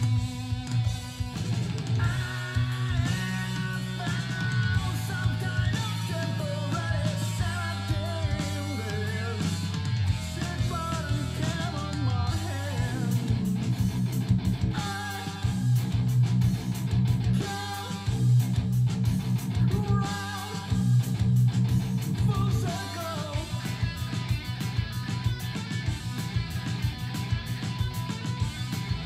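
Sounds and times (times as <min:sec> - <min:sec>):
electric guitar: 0:00.0 - 0:29.0.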